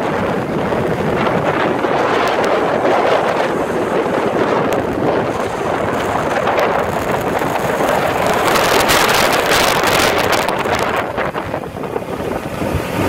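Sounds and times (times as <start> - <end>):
water rushing past boat hull: 0.0 - 13.0
wind buffeting microphone: 0.0 - 13.0.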